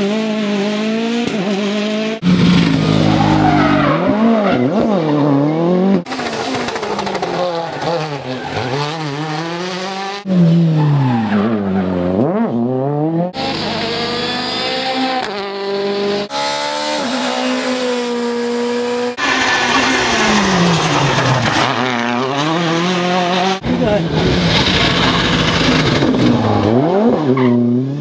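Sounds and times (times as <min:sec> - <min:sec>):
car engines revving hard: 0:00.0 - 0:28.0.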